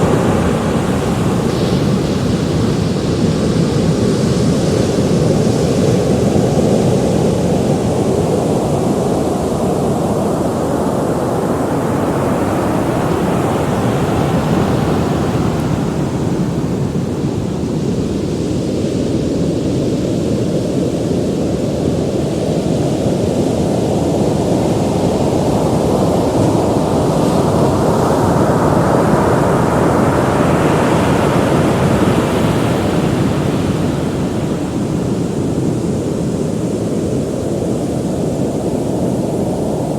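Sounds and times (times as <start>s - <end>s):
ocean waves breaking: 0.0s - 19.5s, 24.2s - 39.9s.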